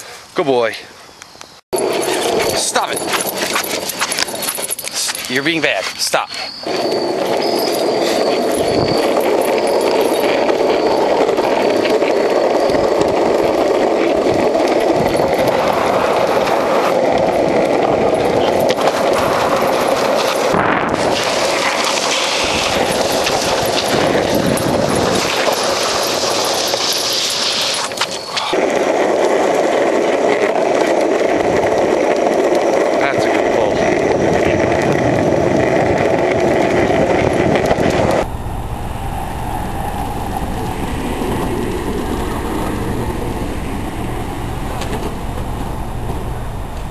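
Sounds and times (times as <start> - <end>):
longboard wheels rolling on pavement: 0.0 - 46.9.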